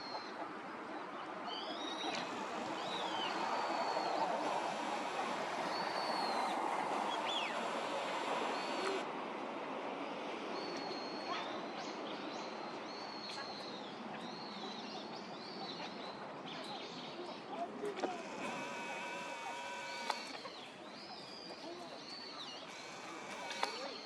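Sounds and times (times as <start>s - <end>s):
steady outdoor noise: 0.0s - 24.0s.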